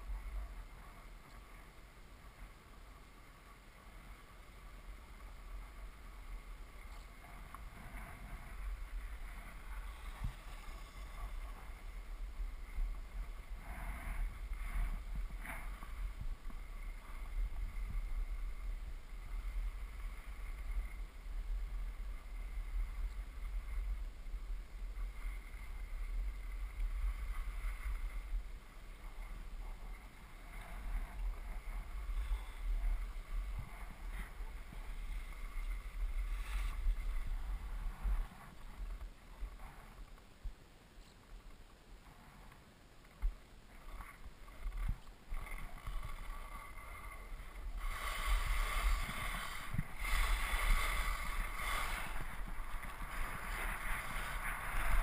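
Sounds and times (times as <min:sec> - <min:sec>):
skis scraping on snow: 0:00.0 - 0:40.2, 0:42.0 - 0:55.0
wind rumbling on microphone: 0:00.0 - 0:55.0.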